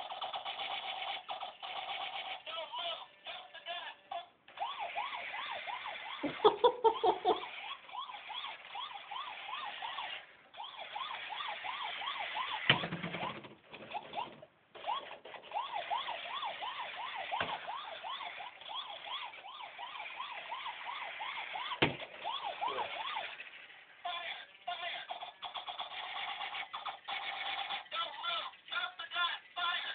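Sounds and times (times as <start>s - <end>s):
toy police car siren warbling: 0.0s - 29.9s.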